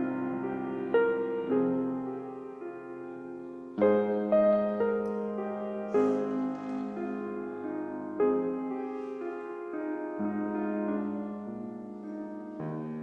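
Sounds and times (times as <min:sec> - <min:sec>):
slow gentle piano chords: 0:00.0 - 0:13.0.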